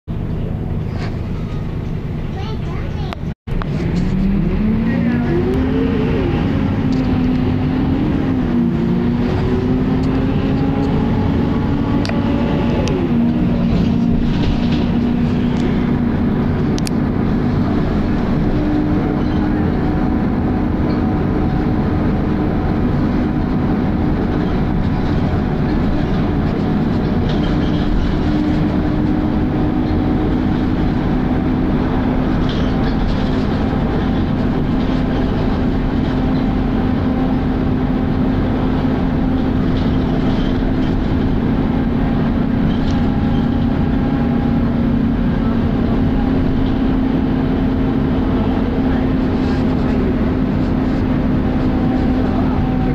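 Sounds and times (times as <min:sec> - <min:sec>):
bus engine rumble: 0:00.1 - 0:52.9.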